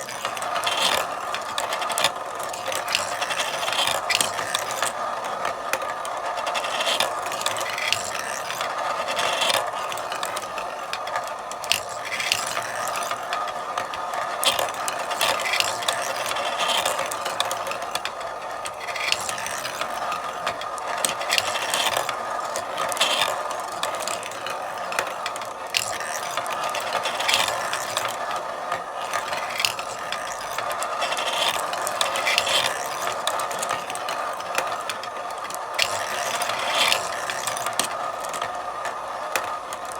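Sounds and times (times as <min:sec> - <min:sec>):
marbles rolling and clacking: 0:00.0 - 0:39.9.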